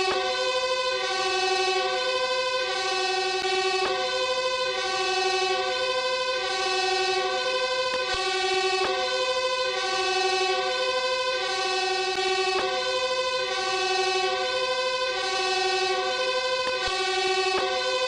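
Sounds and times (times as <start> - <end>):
steady siren tone: 0.0 - 18.0.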